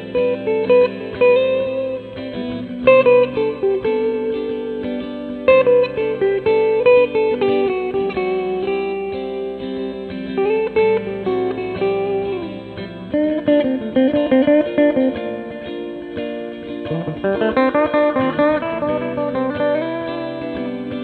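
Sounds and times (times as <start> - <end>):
electric guitar lead with delay: 0.0 - 21.0.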